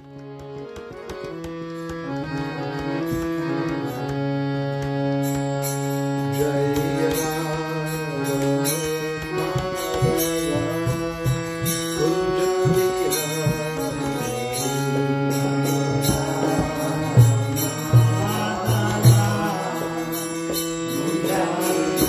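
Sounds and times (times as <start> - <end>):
harmonium chords: 0.0 - 22.0.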